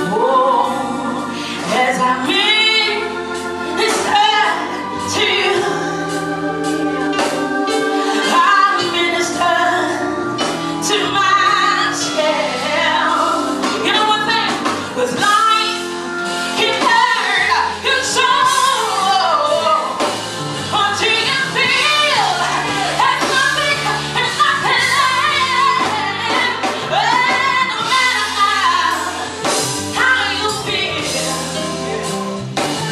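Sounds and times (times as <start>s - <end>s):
gospel singing: 0.0s - 32.9s
instrumental backing: 0.0s - 32.9s.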